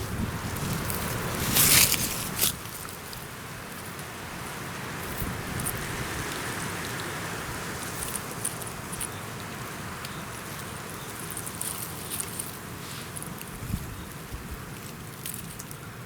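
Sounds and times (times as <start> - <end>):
wind in pine forest: 0.0 - 16.0.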